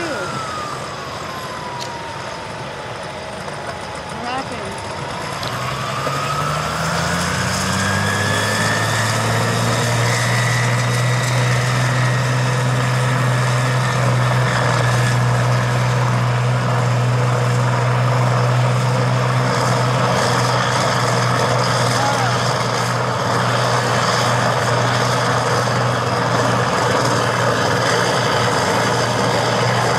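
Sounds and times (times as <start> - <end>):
diesel engine racing with whine: 0.0 - 29.9.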